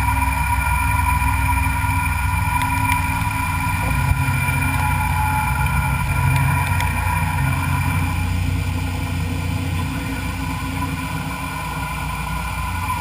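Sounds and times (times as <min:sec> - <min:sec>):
machine tool humming and whining: 0:00.0 - 0:13.0.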